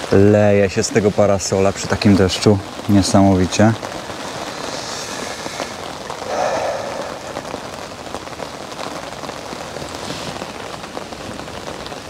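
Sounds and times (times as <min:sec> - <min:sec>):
heavy rain on umbrella: 0:00.0 - 0:12.0.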